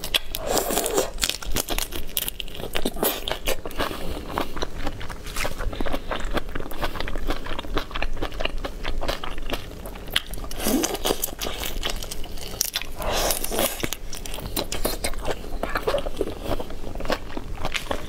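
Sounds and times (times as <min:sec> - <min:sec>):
wet biting and chewing: 0:00.0 - 0:18.0.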